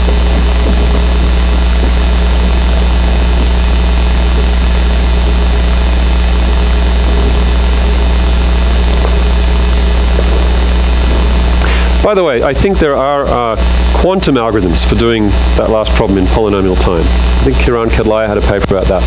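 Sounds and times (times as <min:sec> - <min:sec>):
higher hum: 0:00.0 - 0:19.0
low electrical hum: 0:00.0 - 0:19.0.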